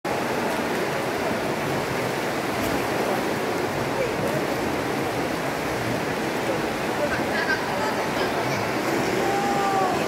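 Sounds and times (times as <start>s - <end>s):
water splashing in a pool: 0.1s - 10.0s.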